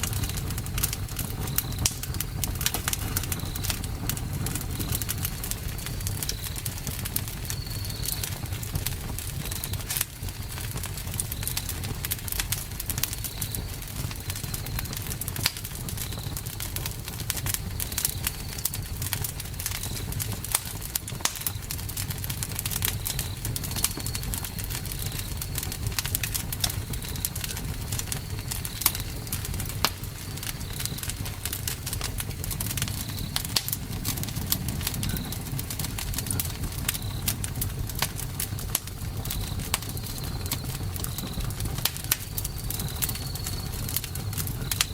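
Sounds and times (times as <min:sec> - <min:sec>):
campfire crackling and popping: 0:00.0 - 0:44.9
low rumble of flames: 0:00.0 - 0:44.9.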